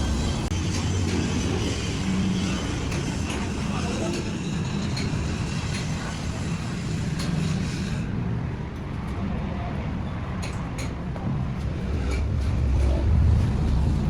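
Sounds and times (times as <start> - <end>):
low engine rumble: 0.0 - 4.4, 5.2 - 14.0.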